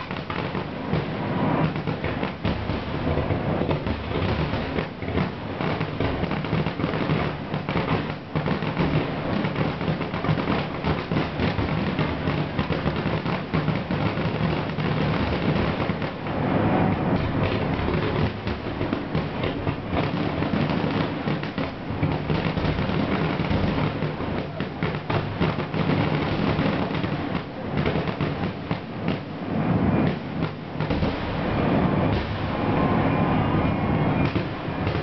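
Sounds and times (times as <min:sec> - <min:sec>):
fireworks booming and crackling: 0:00.0 - 0:35.0.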